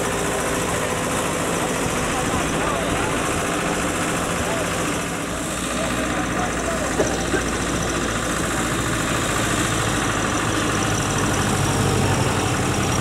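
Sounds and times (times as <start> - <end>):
railcar engine running: 0.0 - 13.0.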